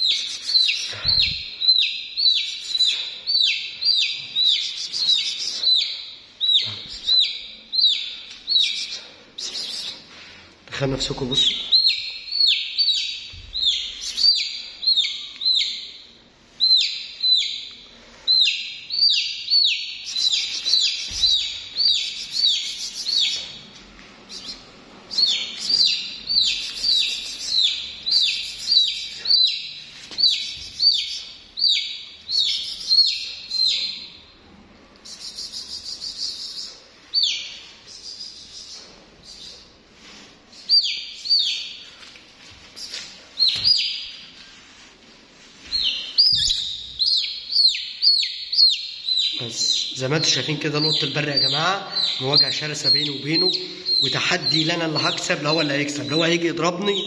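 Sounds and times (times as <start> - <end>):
chick peeping loudly: 0.0 - 10.0, 11.0 - 23.7, 24.3 - 34.2, 35.1 - 39.6, 40.6 - 41.8, 42.8 - 44.1, 45.7 - 57.0.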